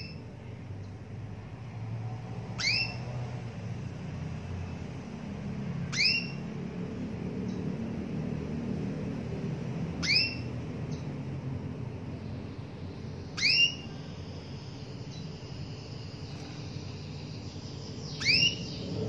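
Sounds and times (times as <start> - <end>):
canary chirping: 0.0 - 1.1, 1.8 - 19.0
steady low rumble: 0.0 - 19.0.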